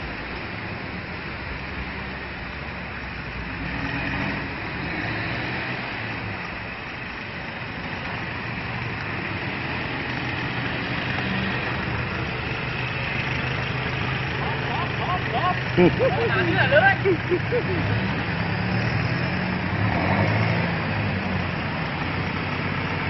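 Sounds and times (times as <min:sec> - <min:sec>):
road noise hiss: 0:00.0 - 0:23.0
vehicle engines humming: 0:00.0 - 0:23.0.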